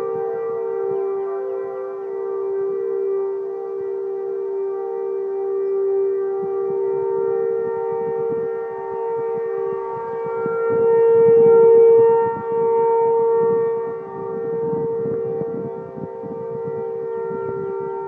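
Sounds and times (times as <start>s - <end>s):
outdoor warning sirens: 0.0s - 18.0s.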